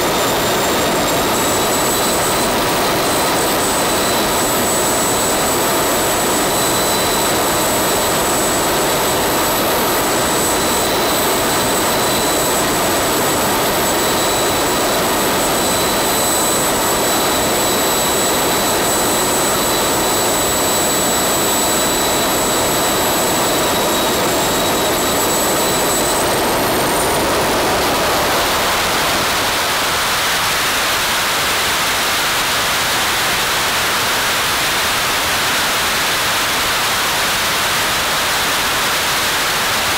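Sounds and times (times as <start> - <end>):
turbine jet engine whine: 0.0 - 39.9.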